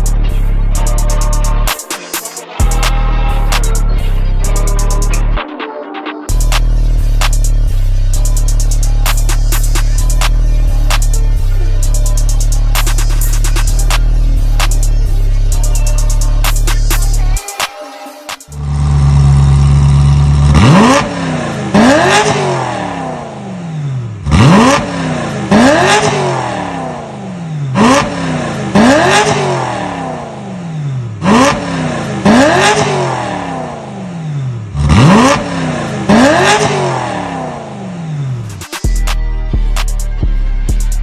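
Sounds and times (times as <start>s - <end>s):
car engine idling and revving: 0.0s - 5.4s, 6.3s - 17.7s, 18.3s - 41.0s.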